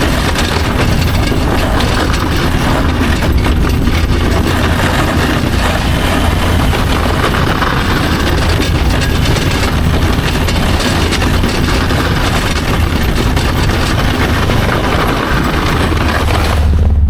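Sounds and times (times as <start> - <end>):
utility vehicle engine droning: 0.0 - 17.0.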